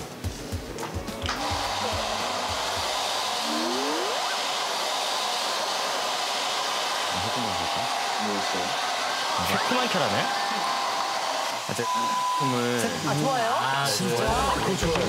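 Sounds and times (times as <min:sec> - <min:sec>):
hair dryer blowing: 0:01.2 - 0:15.0.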